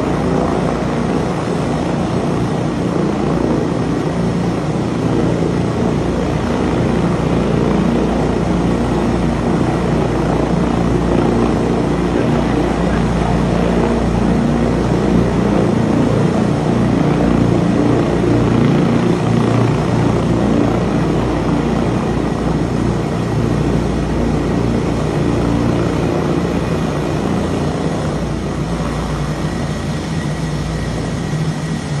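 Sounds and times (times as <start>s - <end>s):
helicopter rotor noise: 0.0s - 32.0s.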